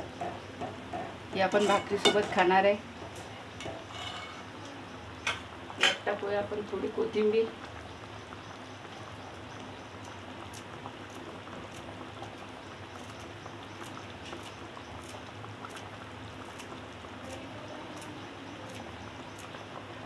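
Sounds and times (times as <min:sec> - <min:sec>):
curry bubbling in a pot: 0:00.0 - 0:20.0.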